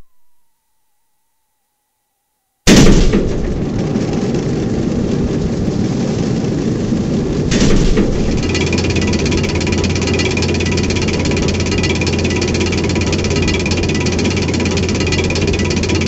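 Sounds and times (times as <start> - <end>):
train rumbling close by: 3.1 - 16.0.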